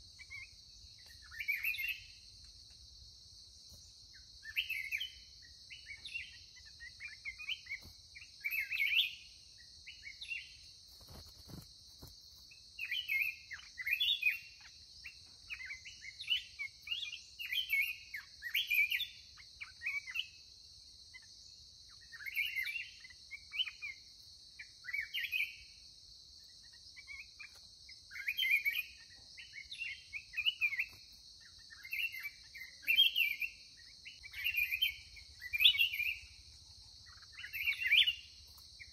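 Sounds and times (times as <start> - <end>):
birds singing warbling chirps: 0.0 - 38.9
high insect drone: 0.0 - 38.9.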